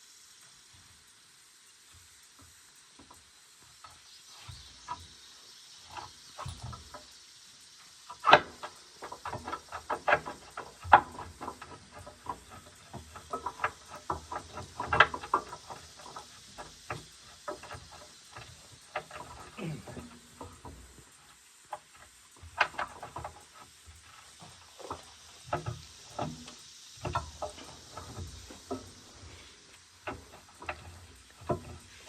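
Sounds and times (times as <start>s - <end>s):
irregular clicks and knocks: 1.9s - 32.0s.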